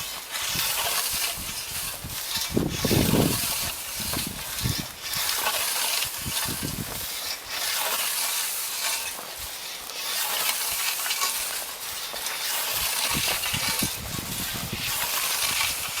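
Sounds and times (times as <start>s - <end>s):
scythe swishing through dry stalks: 0.0s - 16.0s.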